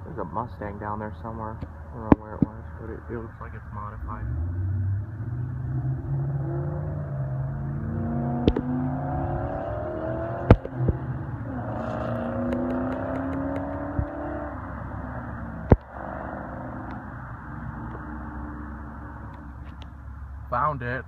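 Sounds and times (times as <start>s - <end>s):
car engine accelerating: 2.9s - 19.8s.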